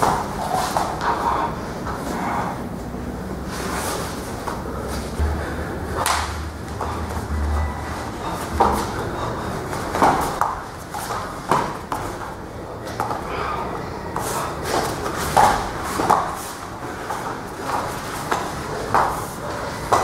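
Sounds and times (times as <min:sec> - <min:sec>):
people grappling on a mat: 0:00.0 - 0:05.3, 0:05.9 - 0:20.0.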